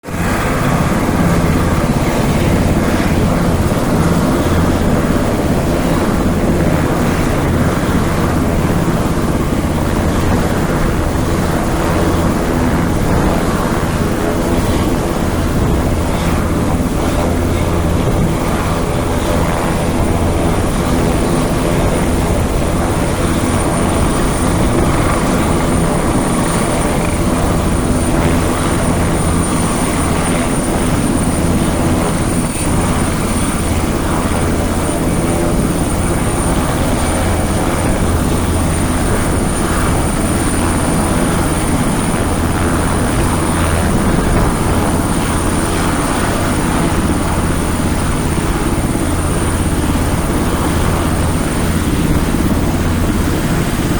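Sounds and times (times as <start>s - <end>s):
helicopter rotor beat and whine: 0.0s - 53.9s.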